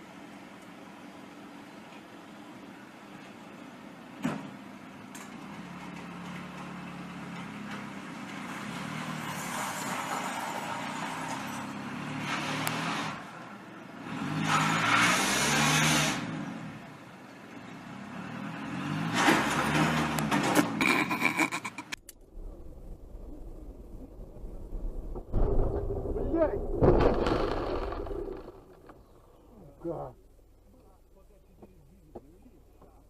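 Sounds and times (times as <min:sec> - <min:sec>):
car engine hum: 0:00.0 - 0:33.0.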